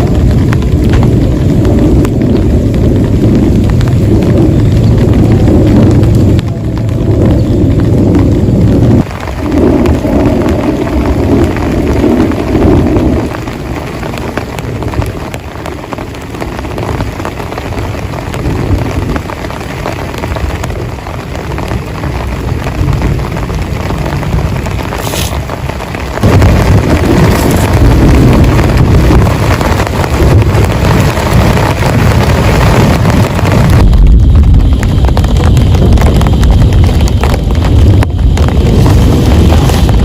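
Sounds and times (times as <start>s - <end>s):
heavy rain pouring: 0.0s - 40.0s
thunder rumbling: 0.0s - 40.0s.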